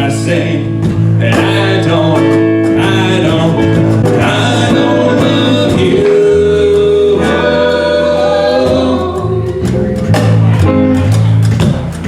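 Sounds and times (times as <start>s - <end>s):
acoustic guitar strumming: 0.3s - 12.0s.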